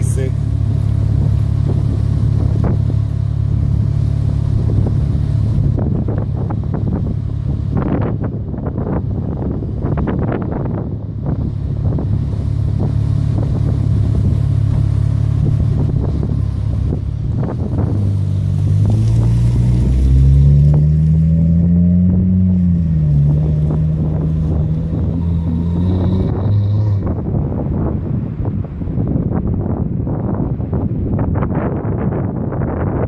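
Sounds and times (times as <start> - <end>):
car exhaust revving: 0.0 - 30.4.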